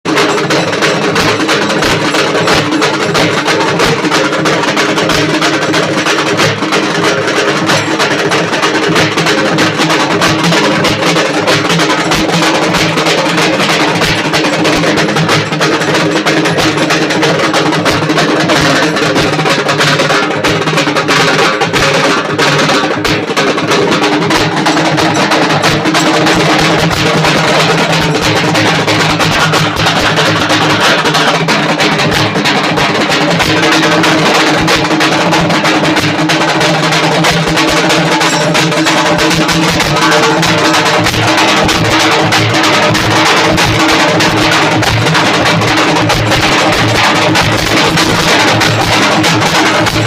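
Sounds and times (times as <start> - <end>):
frame drums beaten with sticks: 0.0 - 50.0.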